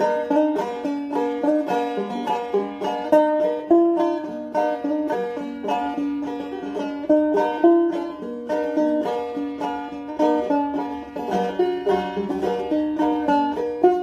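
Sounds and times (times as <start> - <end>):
banjo picking: 0.0 - 14.0.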